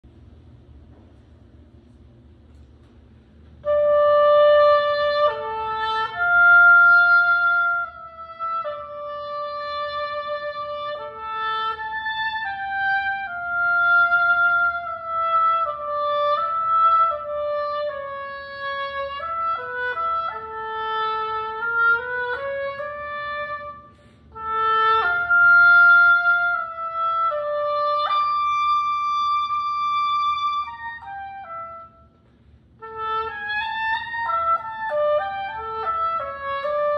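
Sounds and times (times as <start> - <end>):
solo oboe melody: 3.6 - 36.9.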